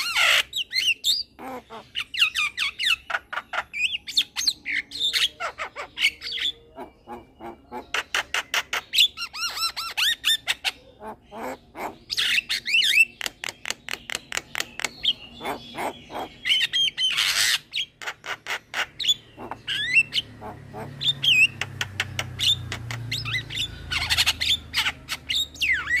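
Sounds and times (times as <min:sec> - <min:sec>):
myna bird singing: 0:00.0 - 0:26.0.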